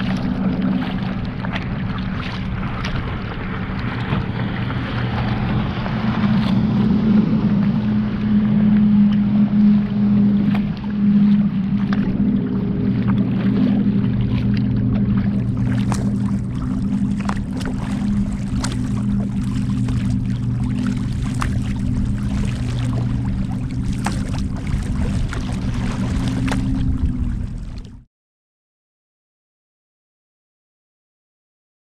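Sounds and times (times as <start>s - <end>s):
low hum: 0.0s - 28.1s
water slapping against kayak hull: 0.0s - 28.1s.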